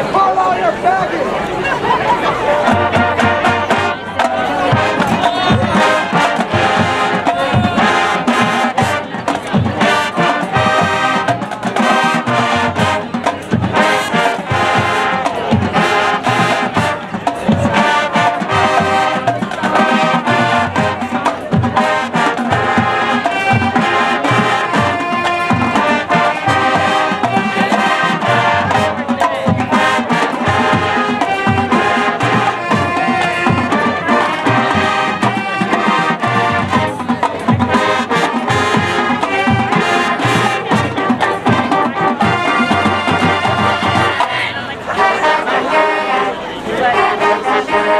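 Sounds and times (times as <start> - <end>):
marching drums: 2.2 - 46.0
brass melody: 2.4 - 47.9.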